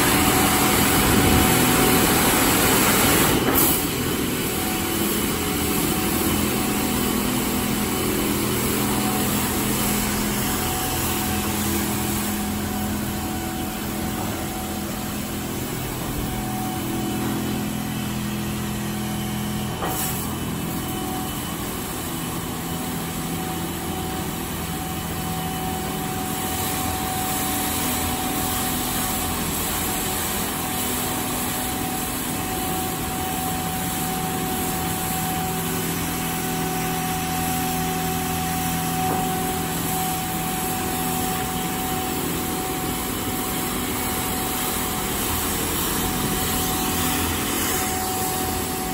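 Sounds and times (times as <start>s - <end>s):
water spraying hiss: 0.0s - 23.7s, 25.5s - 48.9s
car wash machine hum: 0.0s - 48.9s.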